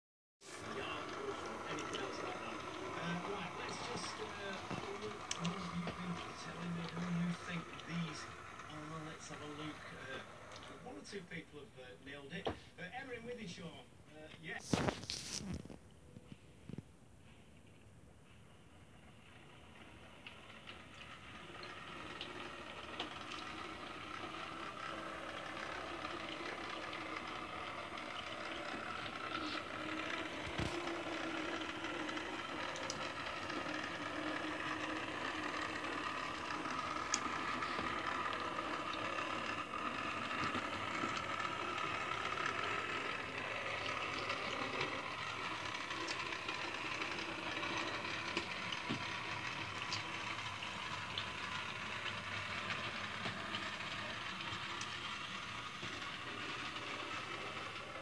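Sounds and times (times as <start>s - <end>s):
wheels clicking over rails: 0.5s - 11.0s, 19.2s - 58.0s
model train motor hum: 0.5s - 12.3s, 19.0s - 58.0s.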